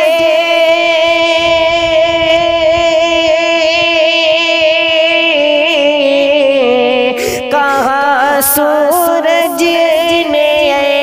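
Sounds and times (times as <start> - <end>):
man singing long note with vibrato: 0.0 - 11.0.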